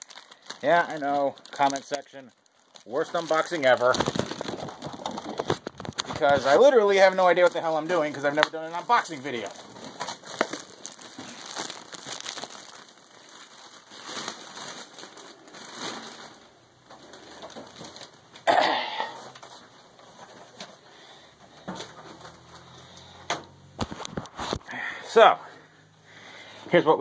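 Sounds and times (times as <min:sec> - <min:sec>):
plastic packaging crinkling: 0:00.0 - 0:23.2, 0:23.8 - 0:24.8.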